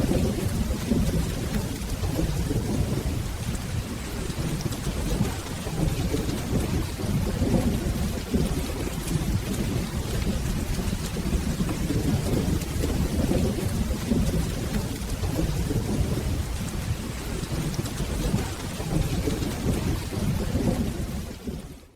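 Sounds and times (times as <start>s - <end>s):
low rolling thunder: 0.0s - 21.9s
steady rain: 0.0s - 21.9s.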